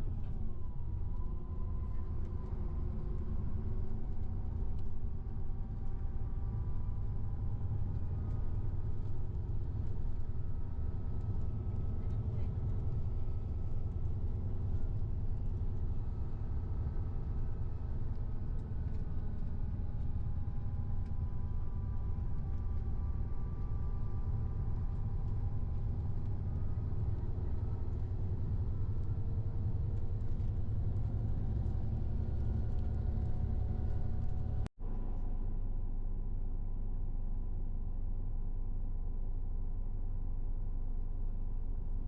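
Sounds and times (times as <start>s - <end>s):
faint whine tones: 0.0s - 42.0s
vehicle rumble inside cabin: 0.0s - 42.0s.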